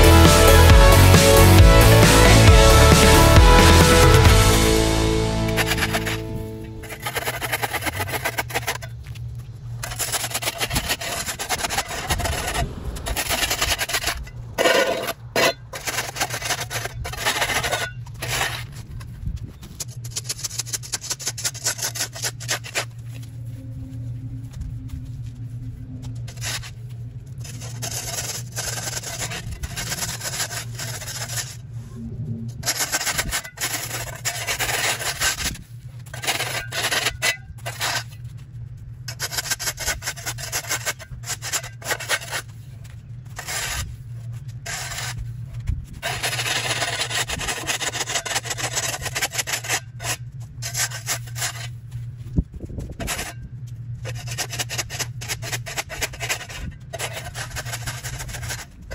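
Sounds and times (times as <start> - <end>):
hand tool scraping concrete: 0.0 - 23.6, 24.5 - 31.7, 32.6 - 58.9
steady low hum: 1.6 - 58.9.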